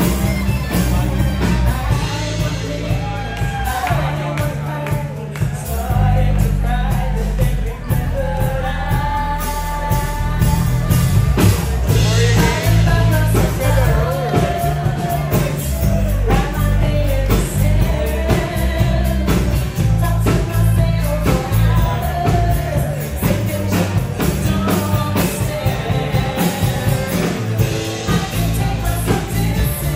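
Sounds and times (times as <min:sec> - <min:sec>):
lead singer: 0:00.0 - 0:29.9
rock band music: 0:00.0 - 0:29.9.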